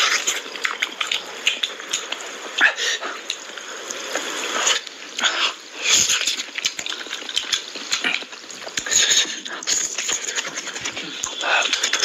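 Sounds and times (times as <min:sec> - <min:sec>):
lip smacking: 0:00.0 - 0:12.0
wet chewing: 0:00.0 - 0:12.0.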